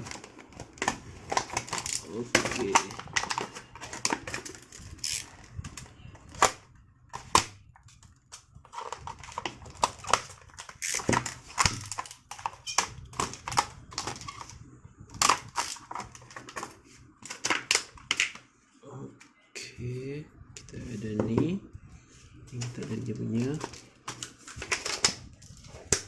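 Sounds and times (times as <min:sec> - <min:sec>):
plastic packaging rustling: 0:00.0 - 0:14.6, 0:15.2 - 0:18.6, 0:22.2 - 0:26.0.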